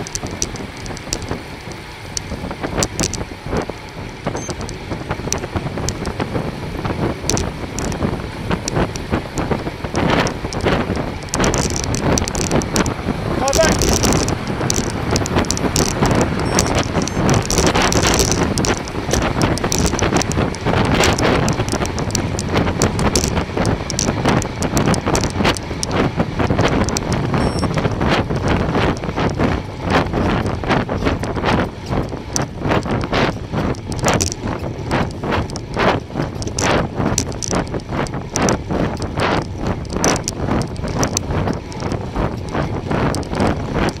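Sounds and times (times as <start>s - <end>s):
bicycle clicks and rattles: 0.0s - 44.0s
wind buffeting microphone: 0.0s - 44.0s.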